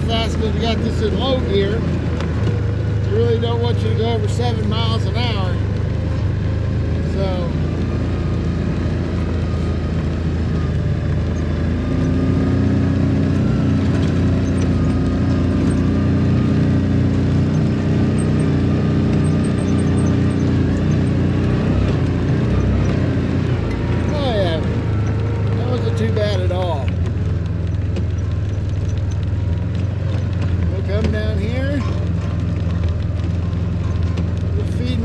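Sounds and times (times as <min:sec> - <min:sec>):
farm vehicle engine running: 0:00.0 - 0:35.0.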